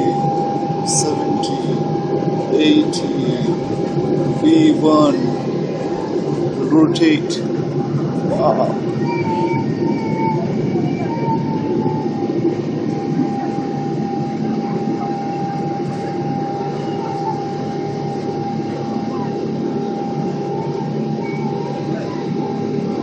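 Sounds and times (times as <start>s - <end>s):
jet engines roaring: 0.0s - 23.0s
steady whining tone: 0.0s - 23.0s.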